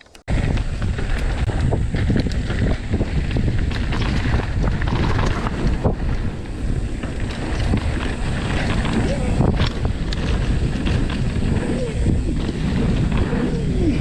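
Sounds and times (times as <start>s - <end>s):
bike knocks and rattles: 0.0s - 14.0s
wind buffeting microphone: 0.3s - 14.0s.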